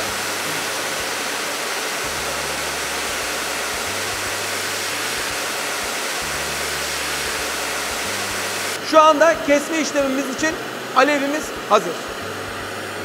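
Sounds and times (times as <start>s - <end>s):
cutting torch hissing: 0.0s - 13.0s.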